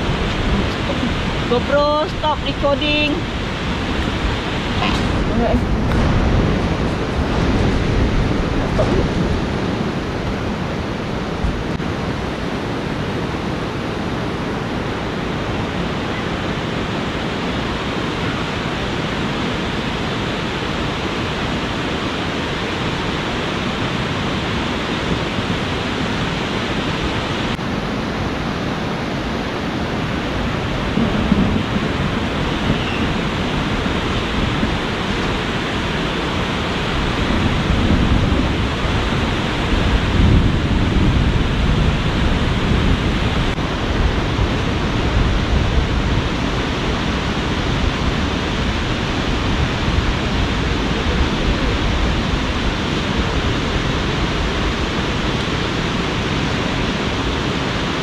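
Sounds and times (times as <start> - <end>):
fast-flowing river rushing: 0.0 - 58.0.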